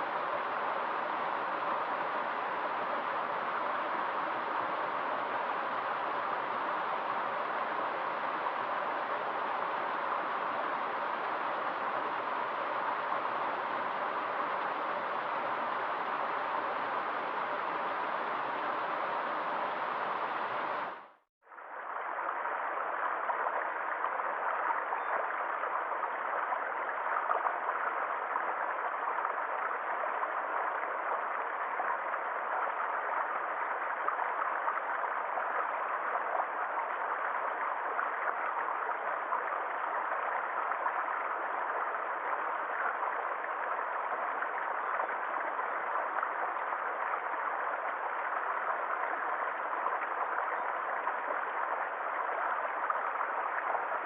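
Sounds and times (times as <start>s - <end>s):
stream water gurgling: 0.0s - 54.0s.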